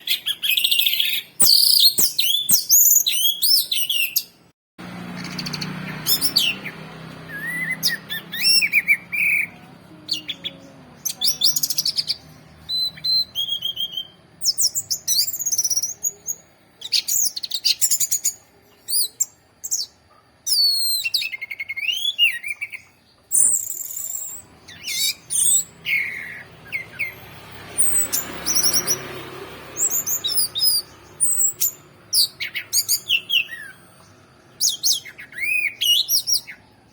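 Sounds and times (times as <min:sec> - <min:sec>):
thrush singing whistles and trills: 0:00.0 - 0:36.9.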